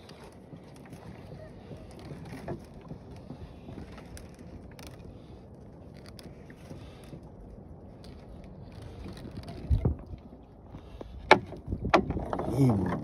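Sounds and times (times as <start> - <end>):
fishing line clicks and scrapes: 0.0 - 12.5
low wind: 0.0 - 13.0
water noise around boat: 0.0 - 13.0.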